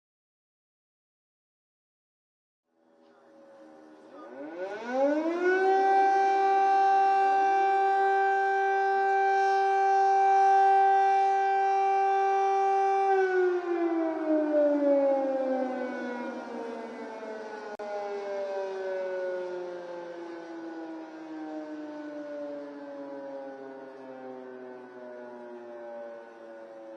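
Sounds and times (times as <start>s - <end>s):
air raid siren: 2.7s - 26.9s.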